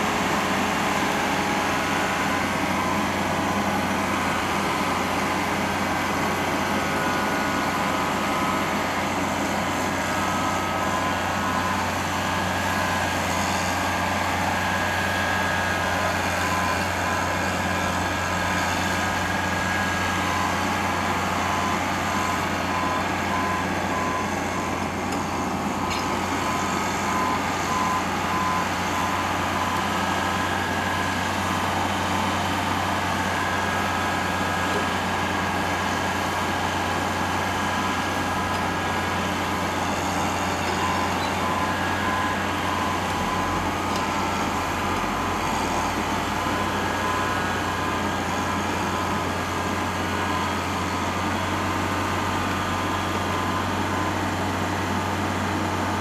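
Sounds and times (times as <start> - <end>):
tracked crawler engine running: 0.0 - 56.0.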